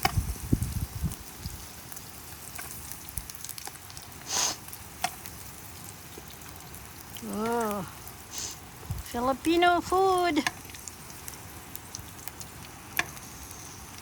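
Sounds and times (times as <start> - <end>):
frying pan sizzling: 0.0 - 14.0.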